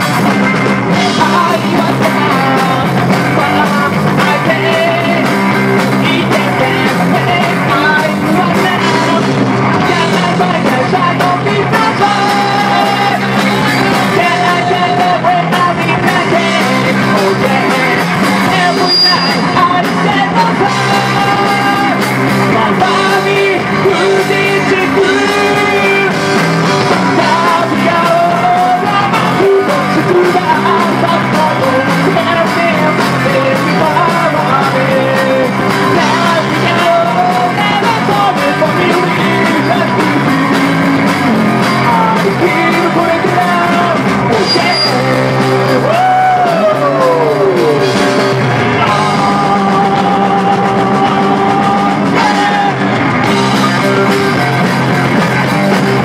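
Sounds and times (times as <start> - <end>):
bass guitar: 0.0 - 56.0
drums: 0.0 - 56.0
electric guitar: 0.0 - 56.0
person singing lead vocal: 0.0 - 56.0.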